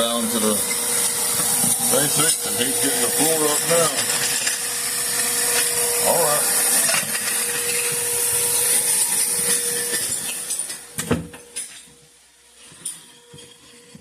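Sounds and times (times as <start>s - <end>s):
power tool humming and hissing: 0.0s - 11.9s.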